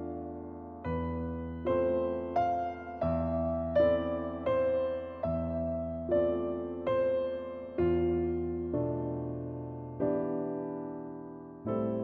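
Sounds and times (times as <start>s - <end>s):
soft keyboard melody: 0.0s - 12.0s.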